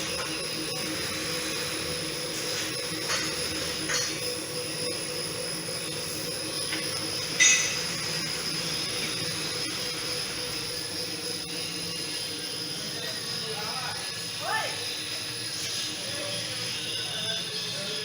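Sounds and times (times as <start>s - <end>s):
mechanical hum from rig: 0.0s - 18.0s.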